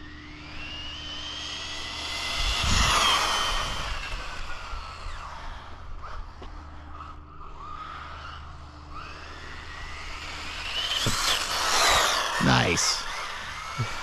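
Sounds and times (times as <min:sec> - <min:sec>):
rc car motor whining: 0:00.0 - 0:14.0.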